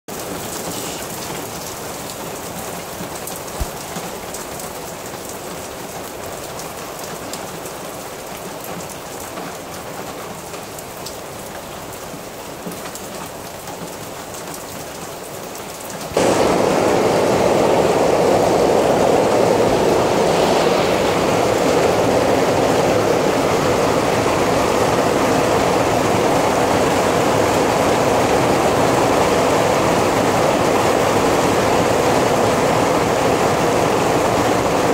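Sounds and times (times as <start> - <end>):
rain pattering on a roof: 0.1 - 34.9
steady rain: 0.1 - 34.9.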